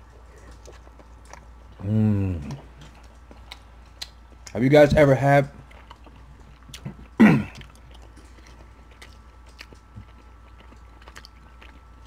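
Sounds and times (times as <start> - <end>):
wet chewing clicks: 0.0 - 4.9, 5.6 - 12.0.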